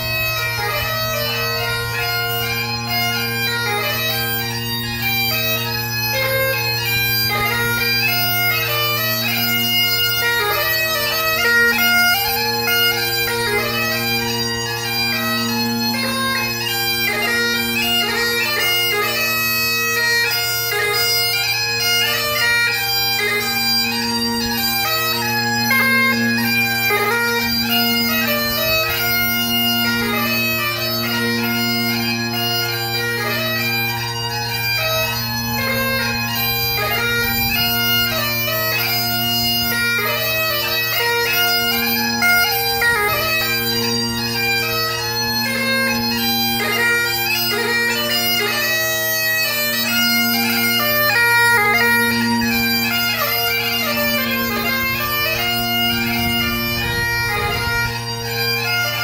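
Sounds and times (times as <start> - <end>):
bagpipe playing quick melody: 0.0 - 59.0.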